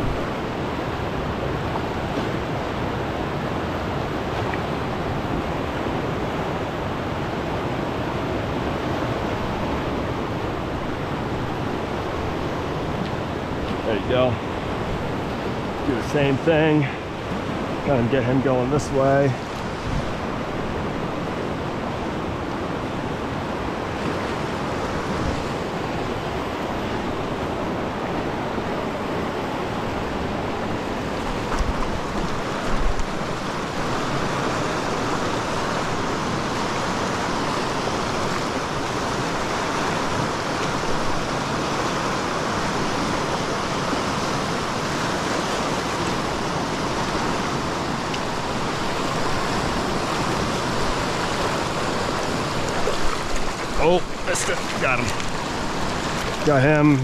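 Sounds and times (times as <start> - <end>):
rapids rushing over rocks: 0.0 - 57.0.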